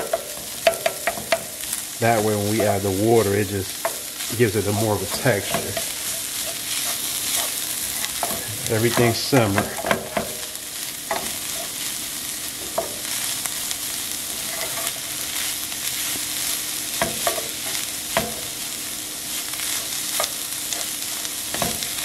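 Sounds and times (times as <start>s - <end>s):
meat and onions sizzling: 0.0s - 22.0s.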